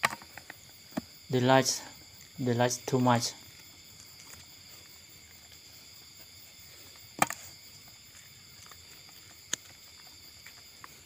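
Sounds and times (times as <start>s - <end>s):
faint high-pitched hiss: 0.0s - 11.0s.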